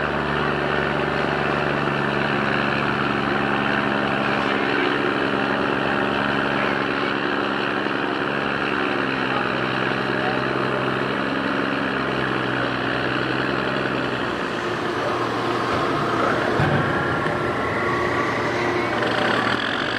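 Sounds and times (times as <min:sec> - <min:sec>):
barge engine humming: 0:00.0 - 0:19.9.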